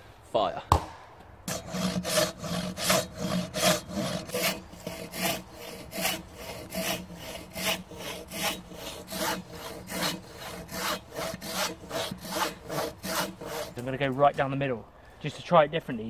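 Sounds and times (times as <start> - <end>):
hand saw cutting log: 1.5 - 14.6.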